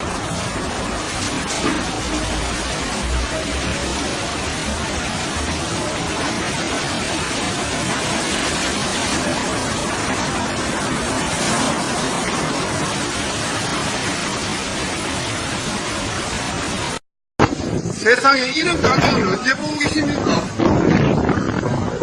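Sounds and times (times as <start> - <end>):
rain: 0.0 - 22.0
surging seawater: 0.0 - 22.0
wind: 0.0 - 22.0.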